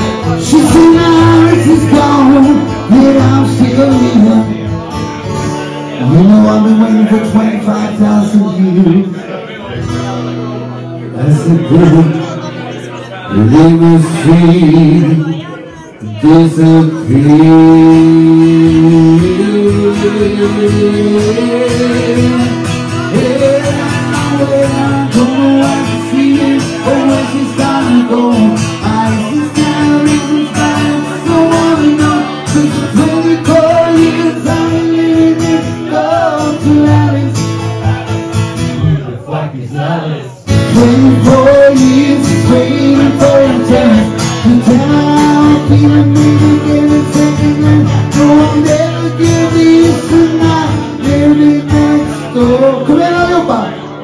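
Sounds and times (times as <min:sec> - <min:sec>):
acoustic guitar strumming: 0:00.0 - 0:54.0
man singing into a microphone: 0:00.0 - 0:54.0.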